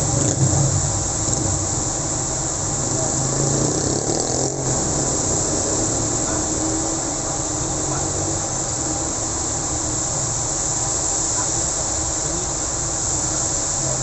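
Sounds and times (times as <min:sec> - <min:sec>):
rain falling on a road: 0:00.0 - 0:14.0
vehicle engines passing by: 0:00.0 - 0:14.0.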